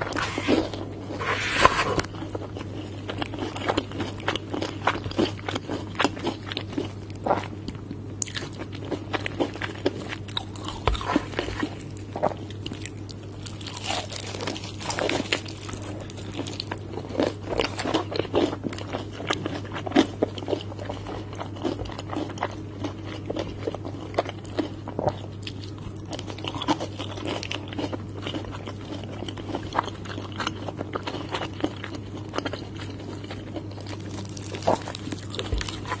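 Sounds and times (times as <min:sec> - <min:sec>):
crunchy fried chicken chewing: 0:00.0 - 0:36.0
steady low hum: 0:00.0 - 0:36.0.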